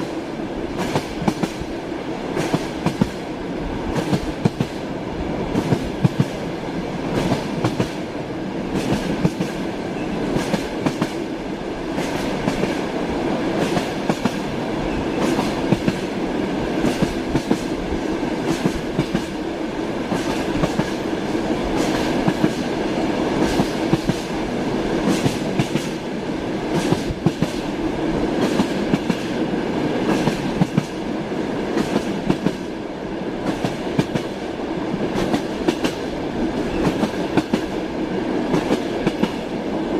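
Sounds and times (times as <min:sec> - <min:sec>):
train wheels clickety-clack: 0:00.0 - 0:32.8, 0:33.4 - 0:39.9.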